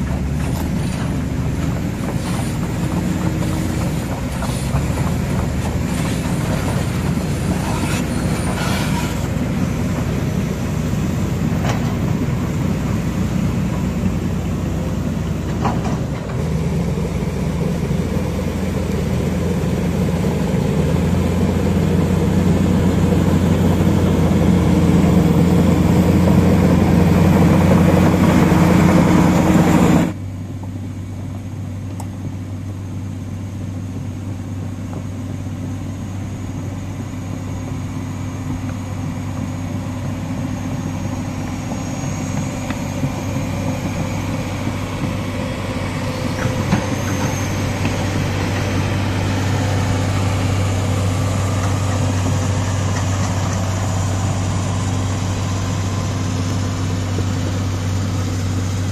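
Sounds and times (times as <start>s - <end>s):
heavy diesel engines droning: 0.0s - 58.9s.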